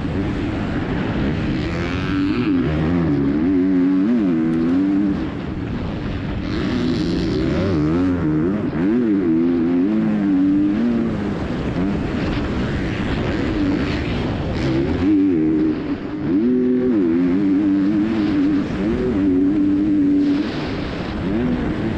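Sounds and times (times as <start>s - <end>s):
motorcycle engine revving: 0.0s - 21.9s
wind and dirt hiss: 0.0s - 21.9s.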